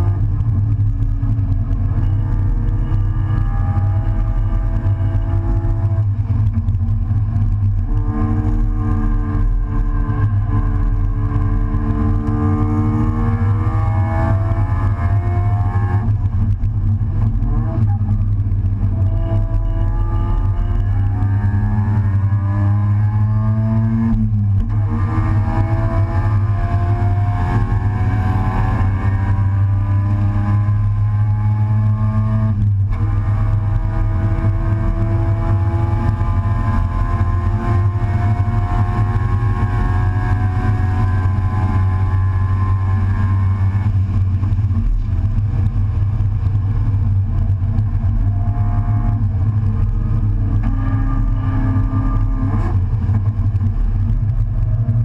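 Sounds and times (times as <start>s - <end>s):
race car engine accelerating: 0.0s - 55.0s
road and wind rumble: 0.0s - 55.0s.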